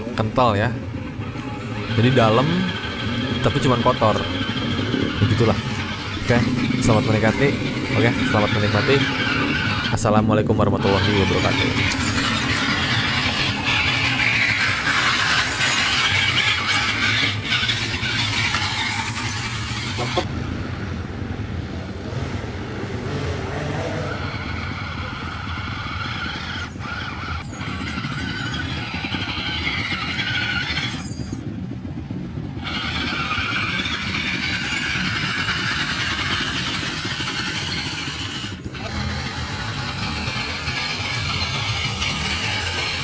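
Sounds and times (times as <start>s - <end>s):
motor and gears whining: 0.0s - 20.3s, 23.0s - 43.0s
tyres churning in mud: 0.0s - 20.3s, 23.1s - 43.0s.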